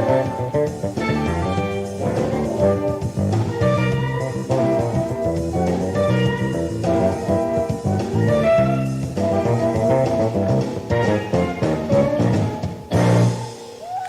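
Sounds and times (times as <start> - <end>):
electric bass: 0.0 - 13.6
drums: 0.0 - 14.0
guitar: 0.0 - 14.0.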